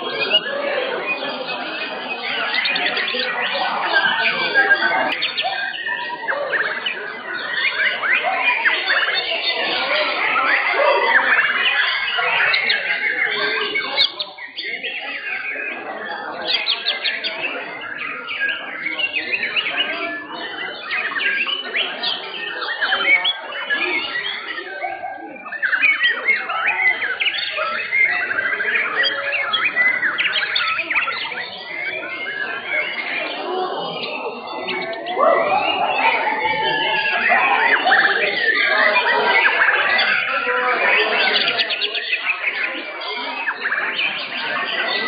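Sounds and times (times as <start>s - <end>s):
birds singing whistles and chirps: 0.0s - 45.0s.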